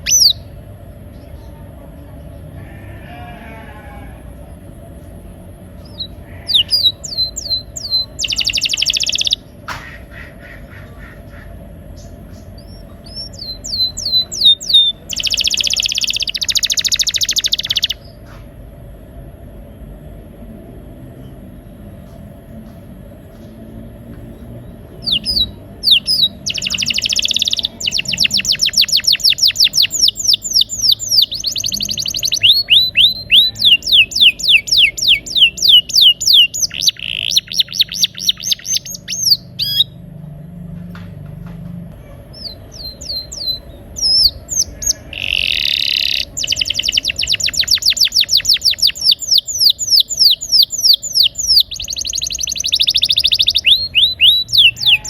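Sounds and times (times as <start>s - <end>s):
canary singing in rolling trills: 0.0s - 18.4s, 24.2s - 55.0s.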